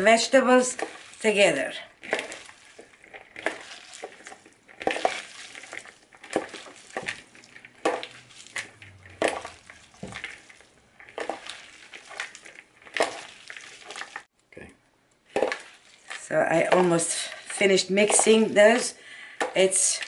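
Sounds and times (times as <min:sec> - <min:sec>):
cabbage salad rustling and crunching: 0:00.0 - 0:14.3, 0:15.3 - 0:20.0.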